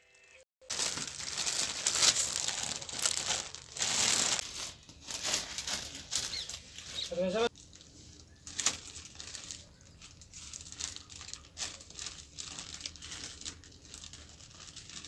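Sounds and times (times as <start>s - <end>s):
plastic bag crinkling: 0.6s - 15.0s.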